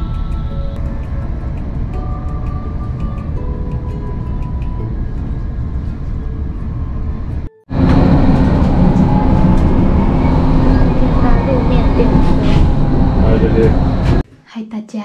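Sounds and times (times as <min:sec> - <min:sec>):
steady hum: 0:00.0 - 0:14.2
vehicle rumble from inside: 0:00.0 - 0:14.2.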